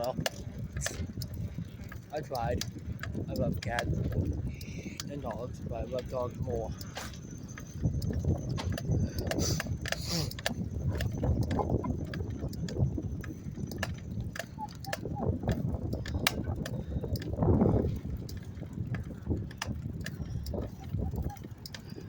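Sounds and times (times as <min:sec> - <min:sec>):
bicycle clicks and rattles: 0:00.0 - 0:22.0
wind rumble on microphone: 0:00.0 - 0:22.0.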